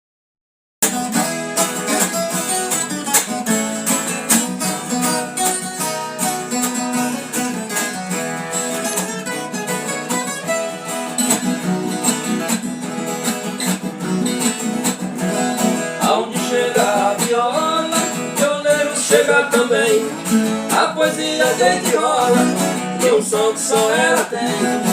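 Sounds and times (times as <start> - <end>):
folk guitar plucked and strummed: 0.8 - 24.9.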